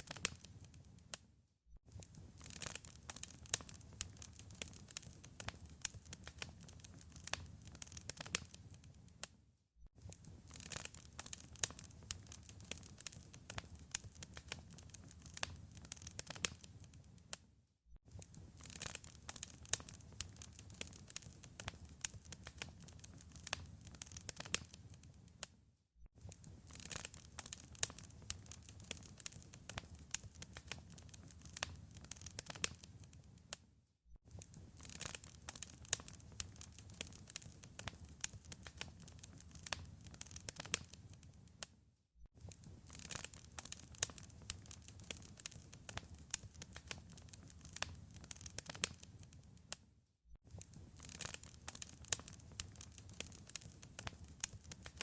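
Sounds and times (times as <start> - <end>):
wood fire crackling and popping: 0.0 - 1.2, 1.9 - 9.3, 10.0 - 17.4, 18.1 - 25.5, 26.2 - 33.6, 34.3 - 41.6, 42.4 - 49.8, 50.5 - 55.0.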